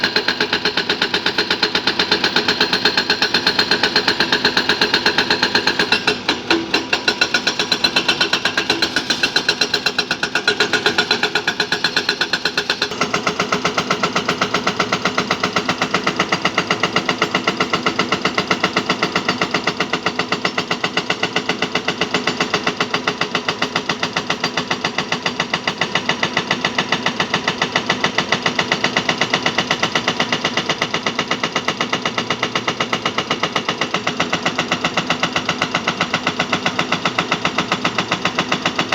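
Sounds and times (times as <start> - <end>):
heavy machinery diesel engine clatter: 0.0 - 38.9.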